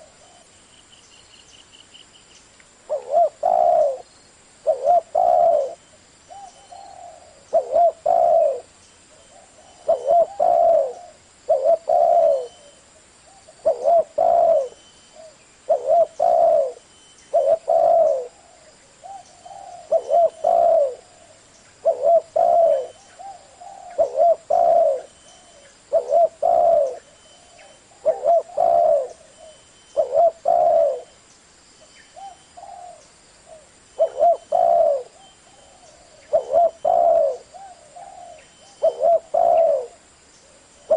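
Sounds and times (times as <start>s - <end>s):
dove cooing: 0.0s - 0.5s, 2.9s - 31.2s, 32.1s - 40.9s.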